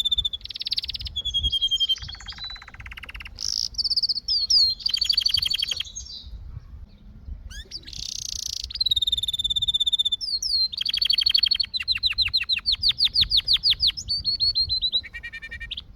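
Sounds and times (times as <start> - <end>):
canary singing trills: 0.0 - 15.9.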